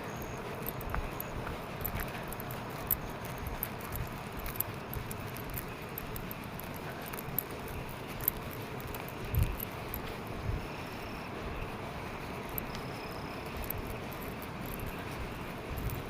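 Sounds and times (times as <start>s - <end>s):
small irregular clicks and crackles: 0.0s - 16.0s.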